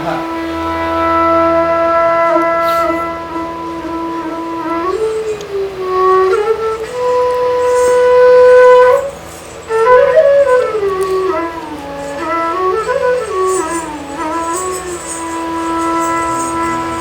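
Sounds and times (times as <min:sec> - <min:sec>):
folk song melody: 0:00.0 - 0:17.0.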